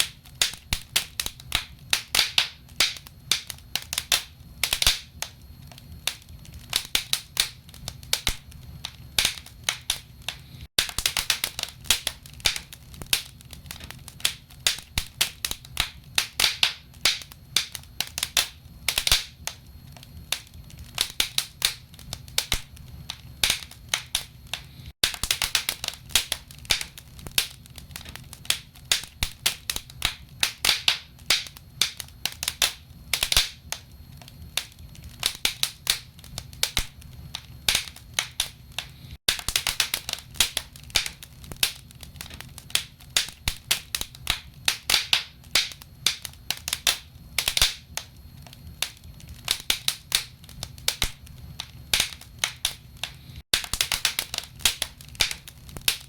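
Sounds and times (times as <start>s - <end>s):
burning logs popping and snapping: 0.0s - 56.0s.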